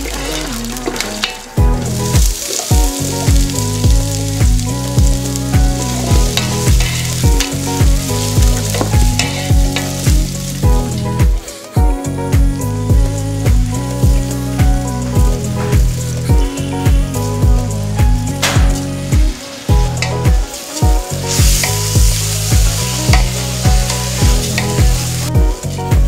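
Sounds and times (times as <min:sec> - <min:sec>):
background music with steady beat: 0:00.0 - 0:26.0
onions sizzling in ghee: 0:00.0 - 0:26.0.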